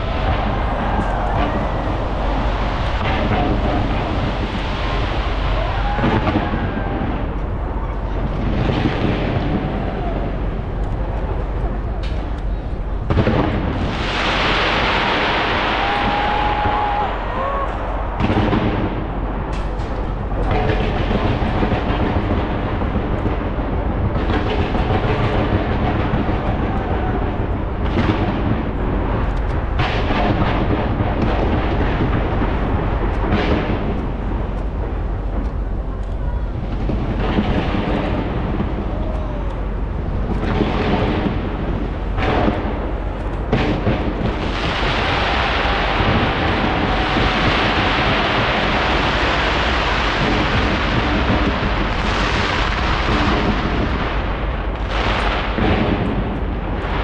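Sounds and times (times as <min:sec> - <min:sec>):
crackling firework shells: 0:00.0 - 0:57.0
fireworks rumbling and banging: 0:00.0 - 0:57.0.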